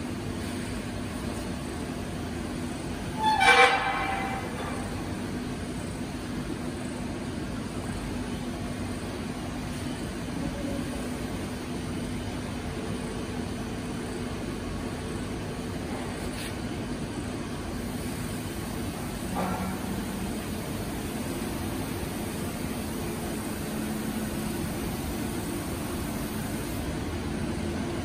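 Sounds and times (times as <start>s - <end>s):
factory machinery running: 0.0s - 28.0s.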